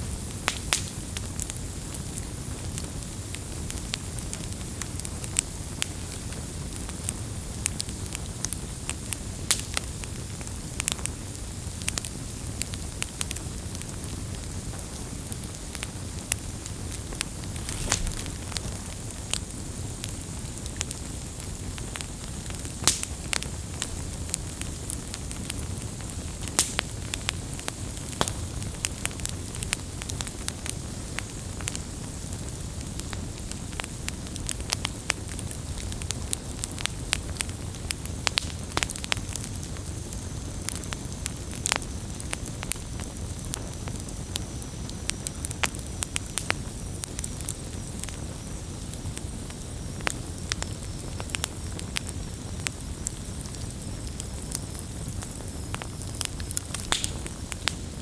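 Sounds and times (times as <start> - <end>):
low rumble of flames: 0.0 - 58.0
wood crackling and popping: 0.1 - 58.0.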